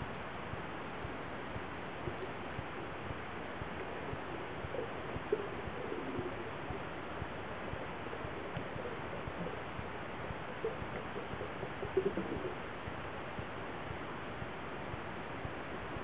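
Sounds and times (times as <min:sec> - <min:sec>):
muffled underwater water noise: 0:00.0 - 0:16.0.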